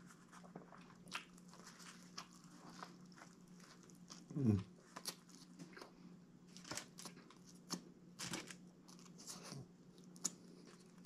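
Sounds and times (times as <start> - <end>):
faint low hum: 0.0 - 11.0
man chewing sandwich: 0.0 - 11.0.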